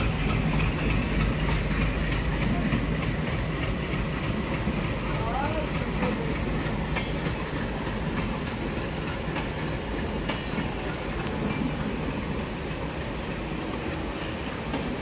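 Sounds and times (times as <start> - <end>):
train rumbling along track: 0.0 - 15.0
wheel clatter over rail joints: 0.0 - 15.0.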